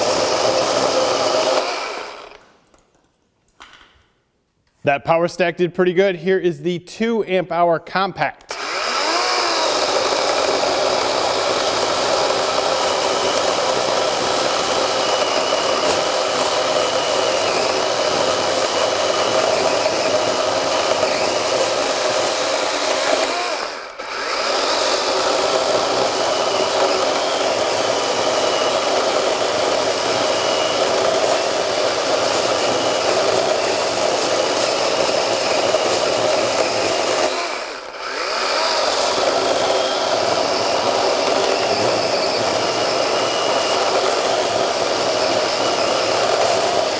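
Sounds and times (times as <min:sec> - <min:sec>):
chainsaw cutting wood: 0:00.0 - 0:02.8, 0:08.5 - 0:46.9.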